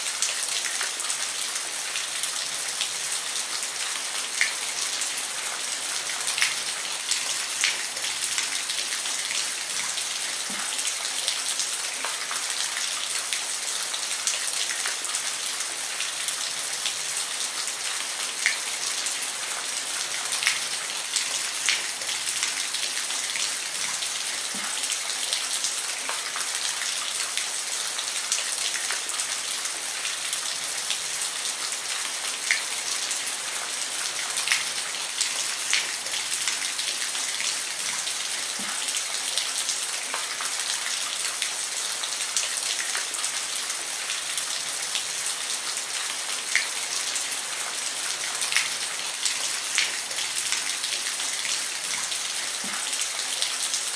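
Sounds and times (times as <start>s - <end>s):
rain on a roof: 0.0s - 53.9s.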